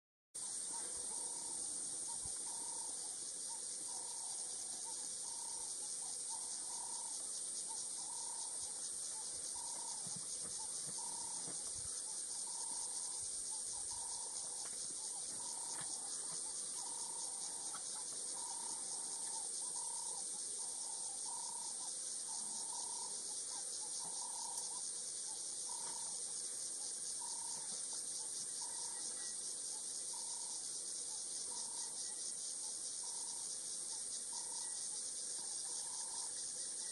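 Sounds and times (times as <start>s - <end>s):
lower short insect call: 0.4s - 36.9s.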